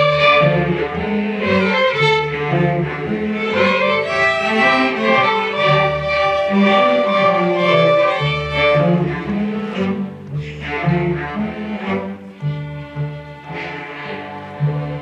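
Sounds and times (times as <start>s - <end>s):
cellos and basses bowing: 0.0s - 15.0s
violins bowing: 0.0s - 15.0s.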